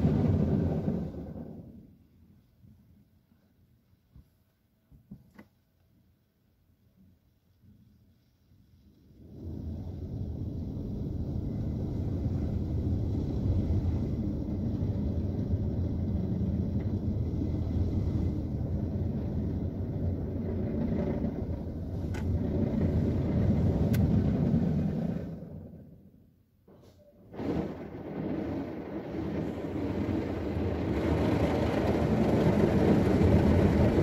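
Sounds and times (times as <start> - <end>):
car wash rumble: 0.0 - 3.5, 7.4 - 34.0.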